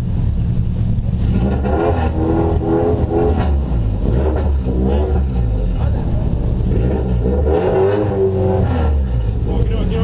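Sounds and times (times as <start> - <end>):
car engine with open exhaust: 0.0 - 10.0.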